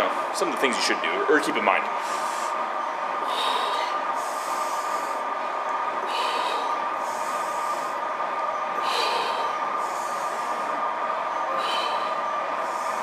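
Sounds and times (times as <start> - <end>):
droning background hum: 0.0 - 13.0.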